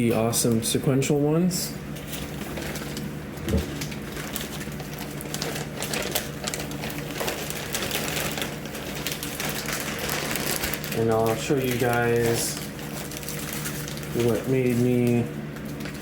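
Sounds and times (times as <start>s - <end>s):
plastic packaging crinkling: 1.9s - 16.0s.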